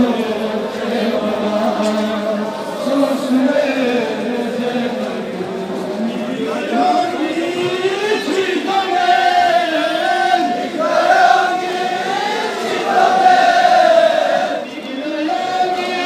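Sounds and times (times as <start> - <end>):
crowd of men chanting: 0.0 - 16.0.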